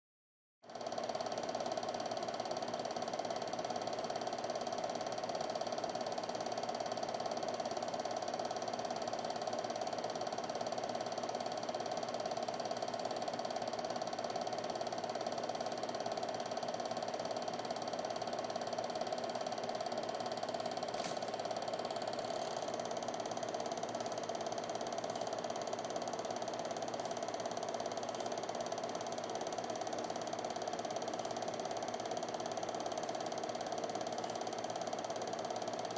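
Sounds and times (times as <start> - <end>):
film projector whirring: 0.7 - 35.9.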